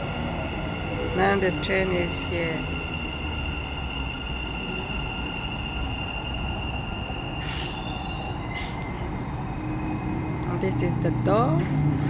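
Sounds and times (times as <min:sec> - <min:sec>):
train high whine: 0:00.0 - 0:12.0
train low rumble: 0:00.0 - 0:12.0.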